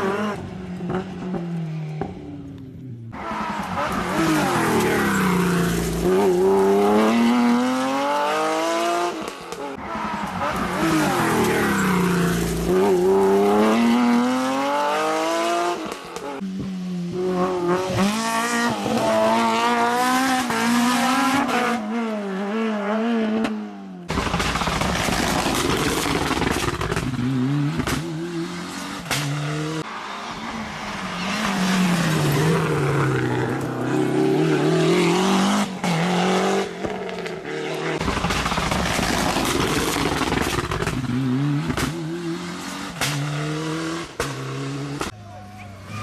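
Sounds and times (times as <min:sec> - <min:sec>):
rally car engines revving: 0:00.0 - 0:46.0.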